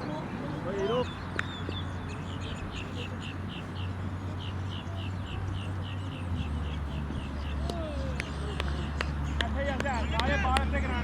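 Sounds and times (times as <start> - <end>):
bird chirping: 0.0 - 10.6.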